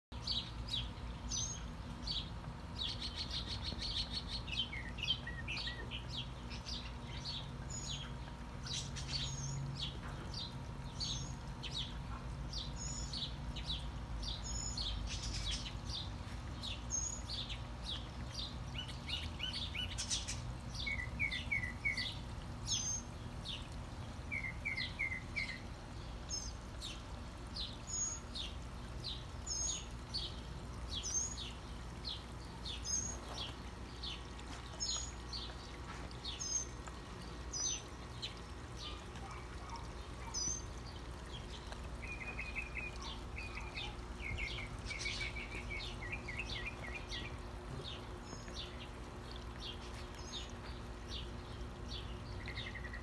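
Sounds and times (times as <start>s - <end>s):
songbirds chirping and trilling: 0.1s - 53.0s.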